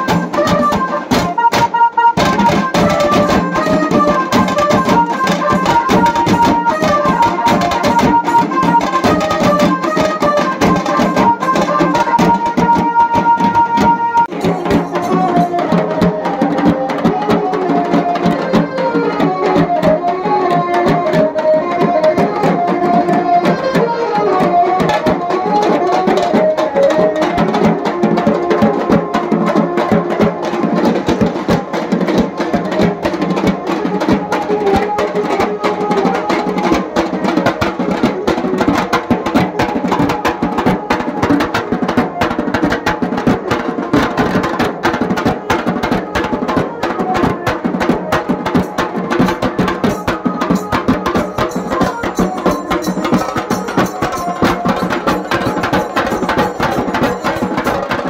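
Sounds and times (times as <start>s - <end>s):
drummers playing barrel drums: 0.0s - 58.0s.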